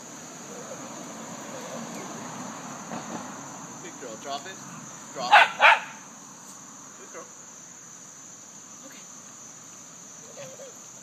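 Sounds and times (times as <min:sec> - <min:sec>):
insect chorus singing: 0:00.0 - 0:11.0.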